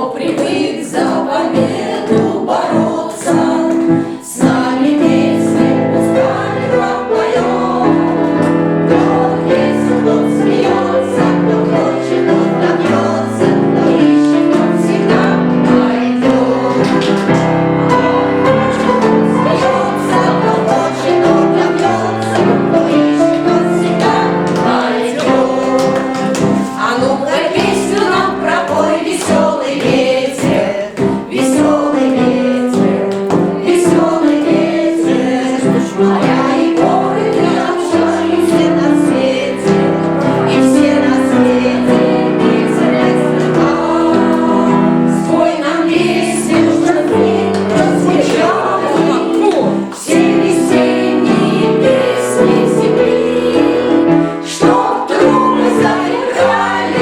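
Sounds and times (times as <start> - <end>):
children's choir singing: 0.0 - 57.0
piano: 0.0 - 57.0.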